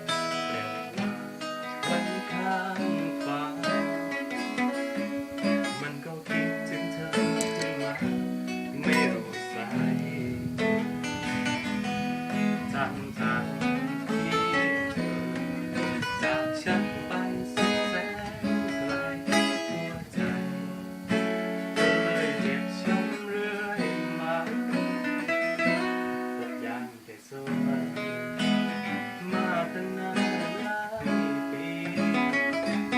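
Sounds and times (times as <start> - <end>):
acoustic guitar strummed and picked: 0.0 - 32.9.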